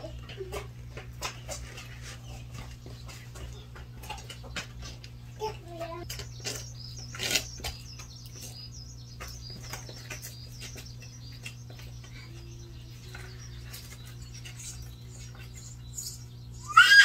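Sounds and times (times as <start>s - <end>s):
sparrow chirping: 0.0s - 16.8s
steady low hum: 0.0s - 17.0s.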